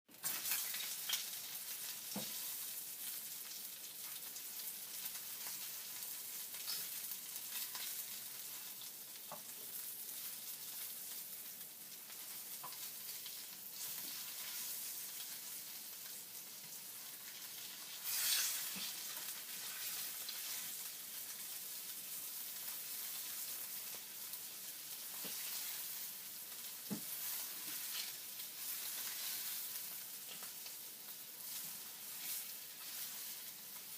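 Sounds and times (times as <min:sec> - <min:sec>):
bacon sizzling with pops: 0:00.1 - 0:33.9.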